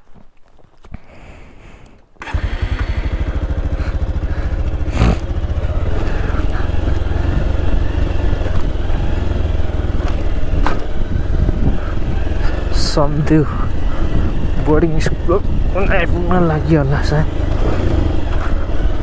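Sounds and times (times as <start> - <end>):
motorcycle engine running: 2.2 - 19.0.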